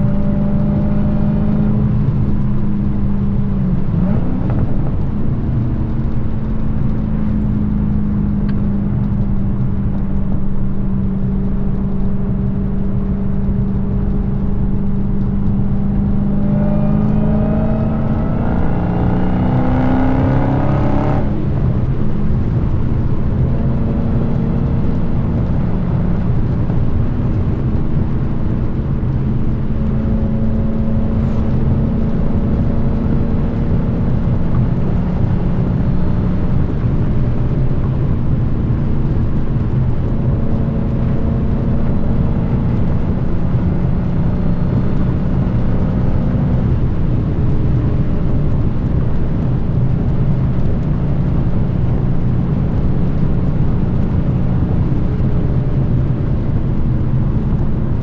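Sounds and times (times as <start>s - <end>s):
car exhaust cruising and revving: 0.0s - 58.0s.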